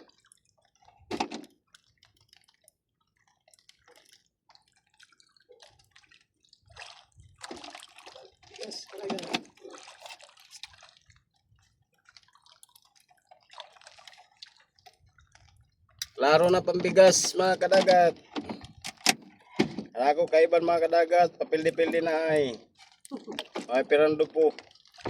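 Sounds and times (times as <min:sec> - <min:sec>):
water splashing and dripping: 0:00.0 - 0:25.0.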